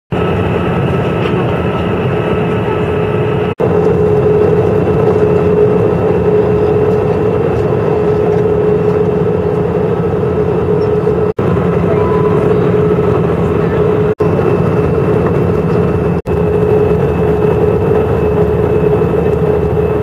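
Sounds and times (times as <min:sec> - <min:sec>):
airplane cabin noise: 0:00.1 - 0:20.0.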